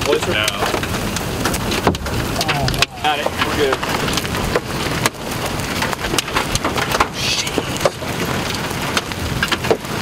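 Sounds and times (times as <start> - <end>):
rain on a vehicle: 0.0 - 10.0.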